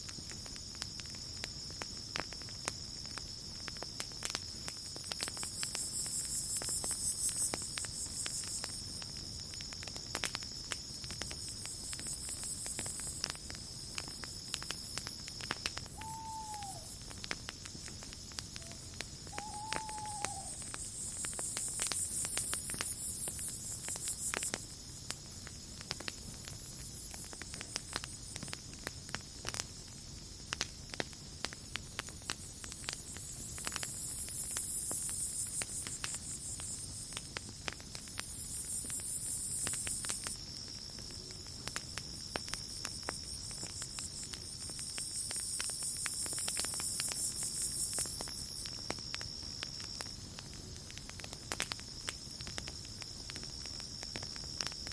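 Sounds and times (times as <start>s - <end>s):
campfire crackling and popping: 0.0s - 54.9s
cricket trill: 0.0s - 54.9s
insects chirring: 0.1s - 54.9s.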